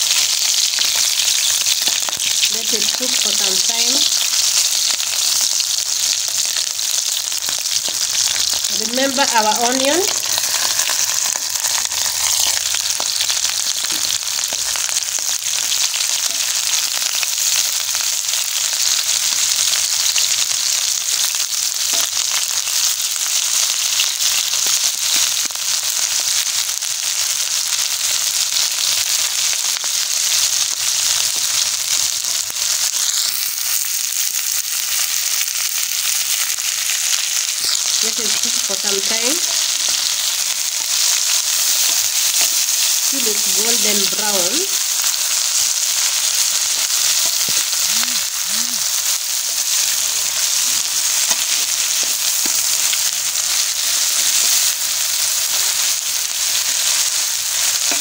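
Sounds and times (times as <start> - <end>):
onions and meat sizzling in oil: 0.0 - 58.0.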